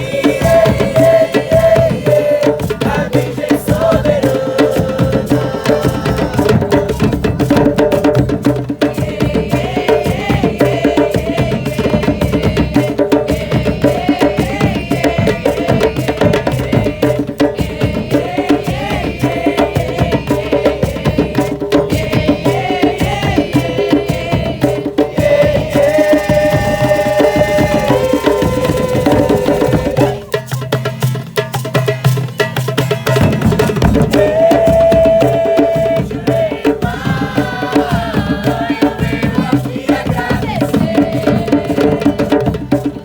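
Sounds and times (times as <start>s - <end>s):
hand drum and percussion strokes: 0.0s - 43.0s.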